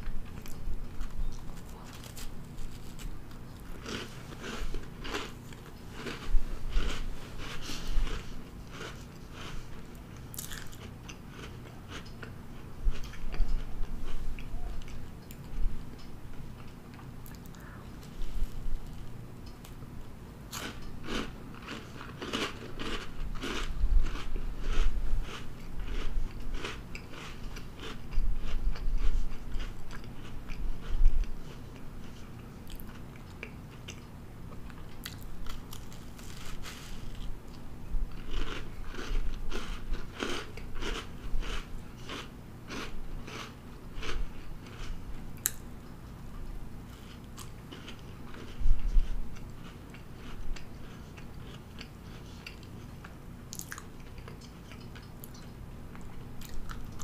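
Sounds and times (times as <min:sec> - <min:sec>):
crisp cookie chewing: 0:00.0 - 0:19.8, 0:20.5 - 0:57.0.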